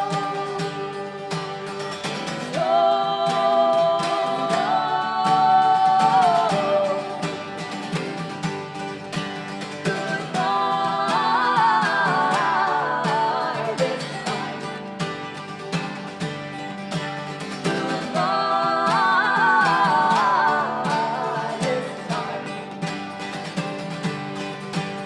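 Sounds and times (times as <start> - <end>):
wordless singing: 0.0 - 24.7
strummed acoustic guitar: 0.0 - 25.0.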